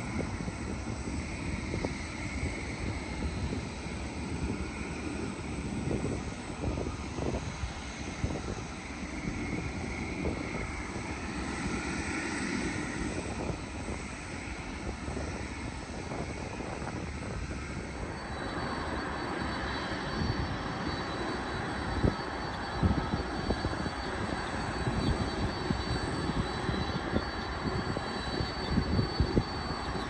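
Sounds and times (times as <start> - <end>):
faint high whine: 0.0 - 30.0
jet engines rushing: 0.0 - 30.0.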